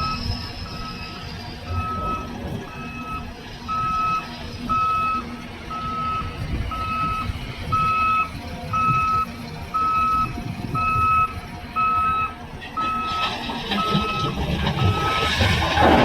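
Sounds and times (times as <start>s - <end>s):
low rumble of engines: 0.0s - 16.0s
reversing alarm beeping: 0.0s - 16.0s.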